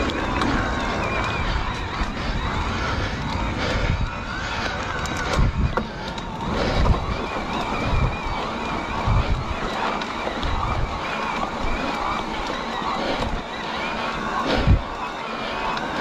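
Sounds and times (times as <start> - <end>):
bike clicks and rattles: 0.0 - 16.0
electric motor whine: 0.0 - 16.0
wind buffeting microphone: 0.0 - 16.0.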